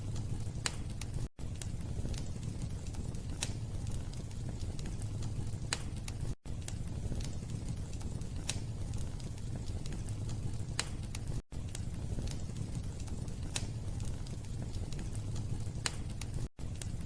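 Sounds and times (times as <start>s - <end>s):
fire crackles: 0.0s - 17.0s
fire rumbling: 0.0s - 17.0s.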